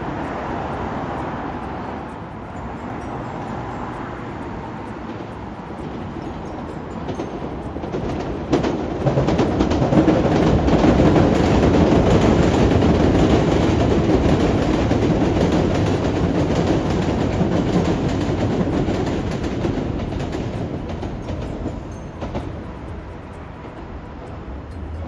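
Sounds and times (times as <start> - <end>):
train wheels clattering on rails: 0.0 - 25.0.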